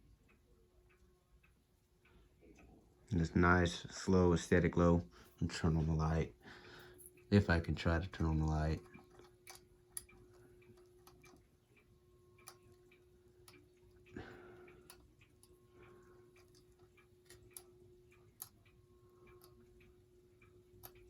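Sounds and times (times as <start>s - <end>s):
ceiling fan hum: 0.0s - 21.0s.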